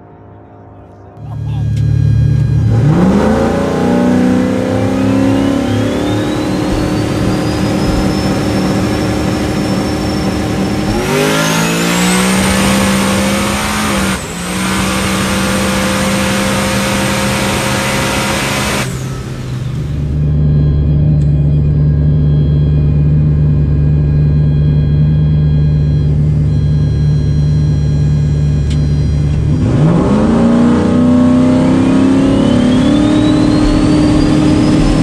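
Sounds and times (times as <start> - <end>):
car engine at full throttle: 1.1 - 35.0
turbo whistle: 1.2 - 30.6, 31.3 - 35.0.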